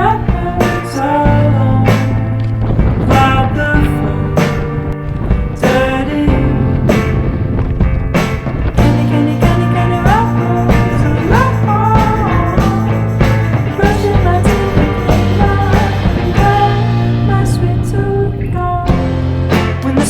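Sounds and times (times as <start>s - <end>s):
rock song with drum beat: 0.0s - 17.7s, 18.9s - 20.0s.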